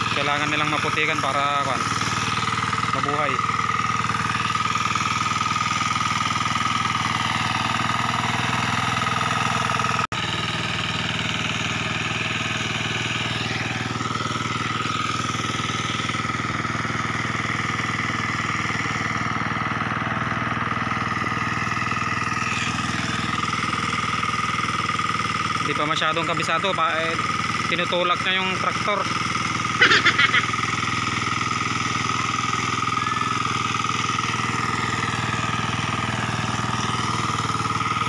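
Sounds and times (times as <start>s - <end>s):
hand tractor engine running: 0.0s - 38.0s.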